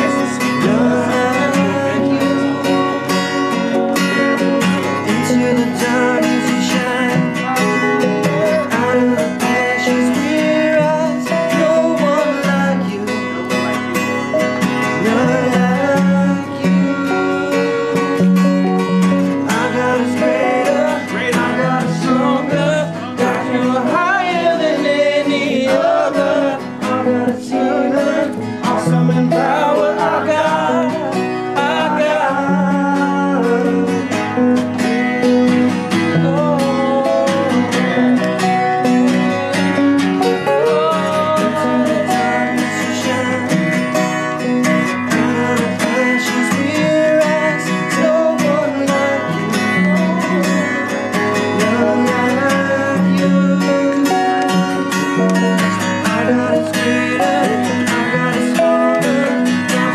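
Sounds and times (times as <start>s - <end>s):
person singing: 0.0s - 59.9s
strummed acoustic guitar: 0.0s - 59.9s.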